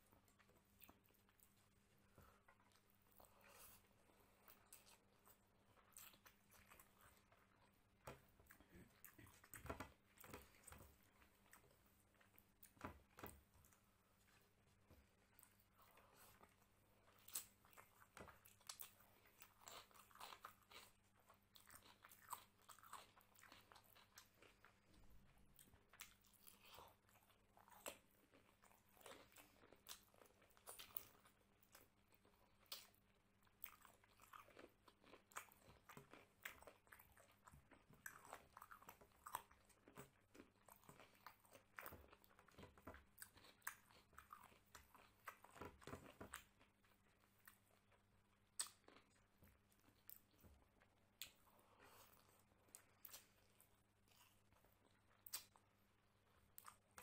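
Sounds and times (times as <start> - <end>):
food crunching and chewing: 0.0 - 57.0.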